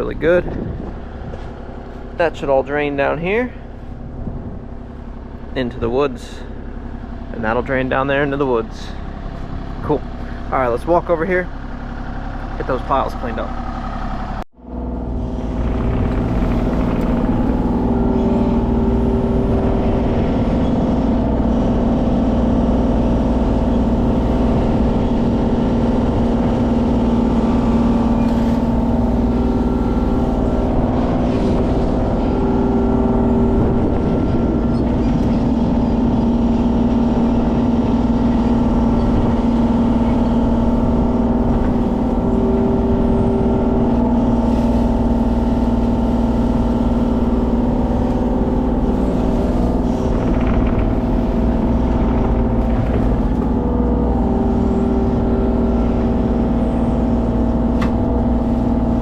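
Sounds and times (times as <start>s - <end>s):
diesel engine running: 0.0s - 59.0s
high-pitched whine: 0.0s - 59.0s.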